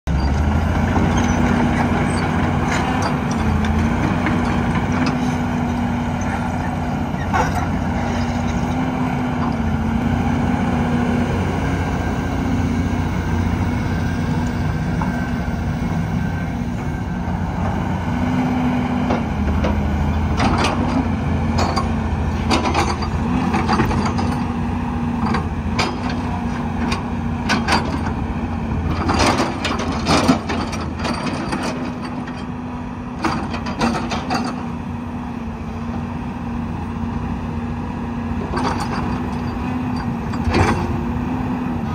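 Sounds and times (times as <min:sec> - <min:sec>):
excavator diesel engine under load: 0:00.0 - 0:41.9.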